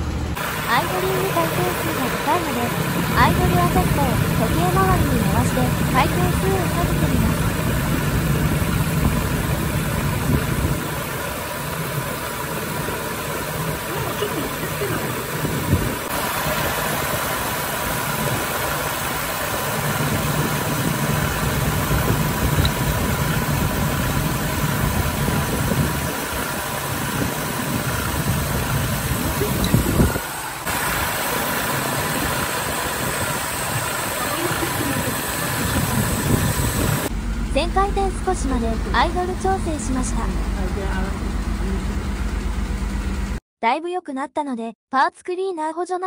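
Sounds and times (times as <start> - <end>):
car engine idling: 0.0 - 43.4.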